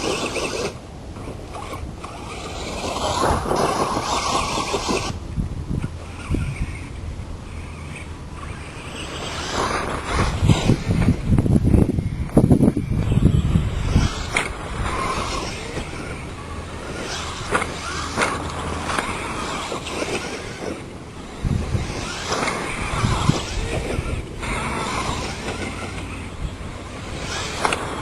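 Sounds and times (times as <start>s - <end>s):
rc truck motor surging: 0.0s - 28.0s.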